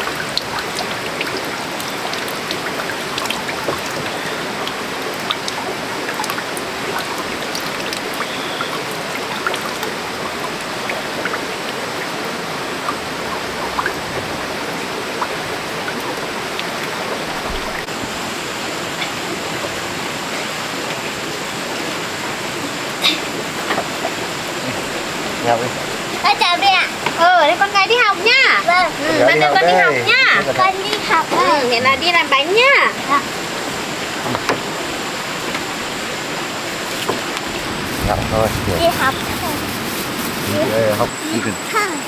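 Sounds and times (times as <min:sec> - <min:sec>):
water rushing: 0:00.0 - 0:42.0.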